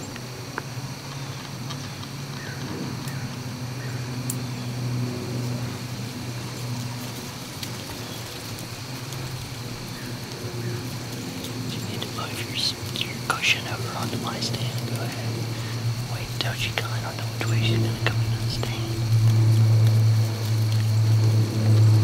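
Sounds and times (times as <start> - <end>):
faint outdoor background noise: 0.0 - 22.0
steady low hum: 0.0 - 22.0.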